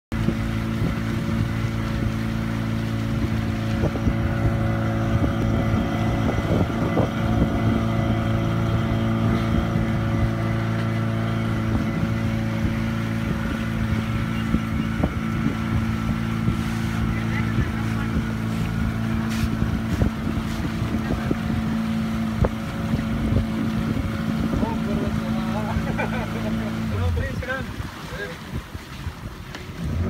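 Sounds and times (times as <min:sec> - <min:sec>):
motorboat engine humming: 0:00.1 - 0:30.0
water splashing along hull: 0:00.1 - 0:30.0.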